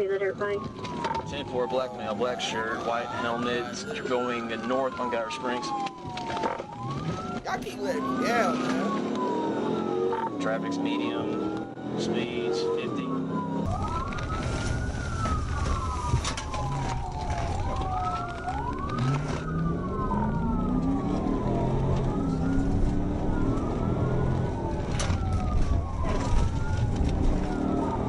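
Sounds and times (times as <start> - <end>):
police siren wailing: 0.6 - 28.0.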